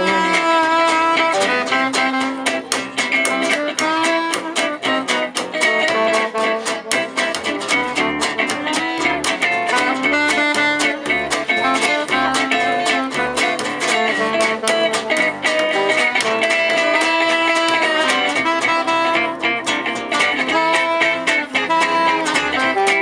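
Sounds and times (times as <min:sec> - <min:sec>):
acoustic guitars strumming: 0:00.0 - 0:23.0
jazz band playing: 0:00.0 - 0:23.0.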